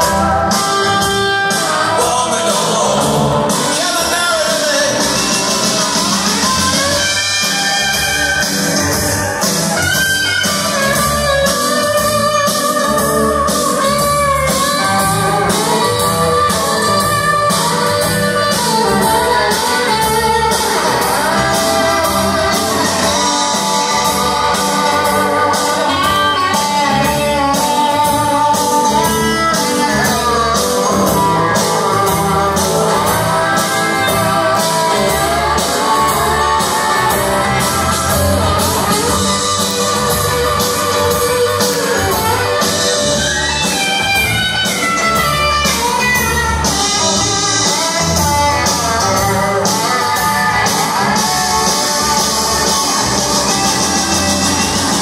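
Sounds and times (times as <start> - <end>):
guitar bending notes: 0.0 - 55.0
live rock band playing: 0.0 - 55.0.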